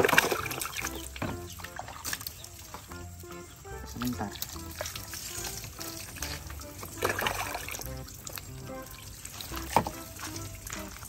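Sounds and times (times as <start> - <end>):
soft background music: 0.0 - 11.0
water splashing and dribbling: 0.0 - 11.0.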